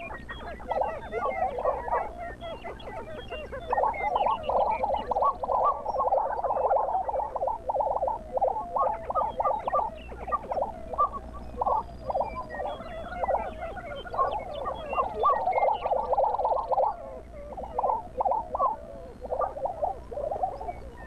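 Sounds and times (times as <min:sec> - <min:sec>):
birds bubbling and clucking chorus: 0:00.0 - 0:21.0.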